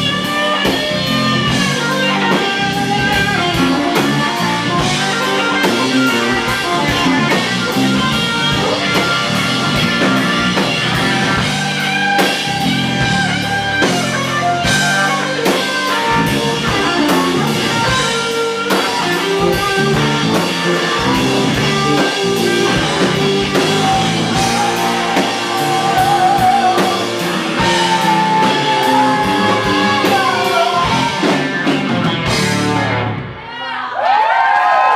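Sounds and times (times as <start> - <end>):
electric guitar leads: 0.0 - 33.5
live rock band playing: 0.0 - 33.5.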